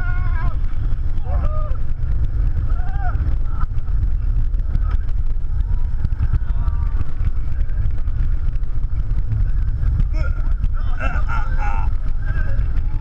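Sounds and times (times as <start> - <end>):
roller coaster running on track: 0.0 - 13.0
wind rumbling on microphone: 0.0 - 13.0.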